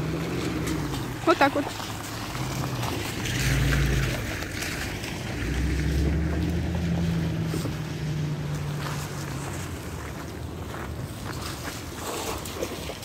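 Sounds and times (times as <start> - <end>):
vehicle engine passing: 0.0 - 11.7.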